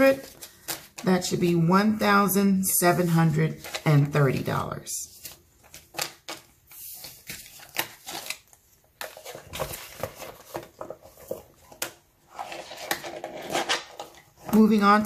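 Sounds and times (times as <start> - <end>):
paper and plastic rustling: 0.0 - 1.6, 2.9 - 15.0.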